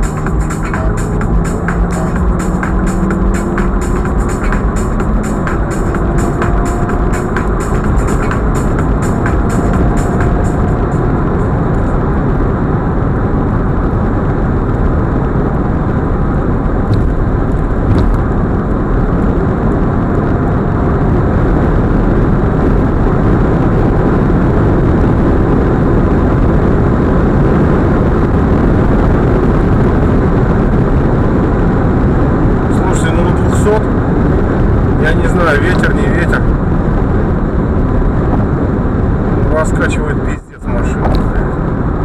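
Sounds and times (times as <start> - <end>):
tyre and wind noise in a car: 0.0 - 42.0.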